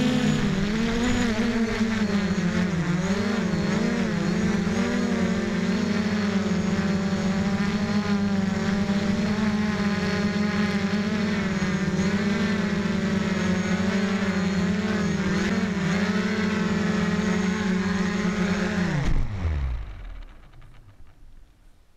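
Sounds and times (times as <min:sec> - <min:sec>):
small model motor running: 0:00.0 - 0:21.2.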